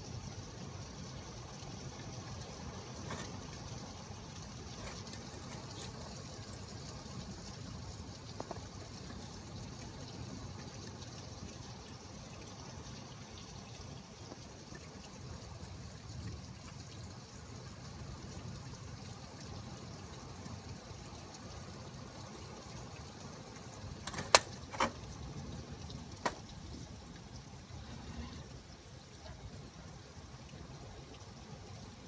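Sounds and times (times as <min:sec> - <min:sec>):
steady rain: 0:00.0 - 0:32.0
water trickling: 0:00.0 - 0:32.0
drips ticking: 0:00.1 - 0:31.9.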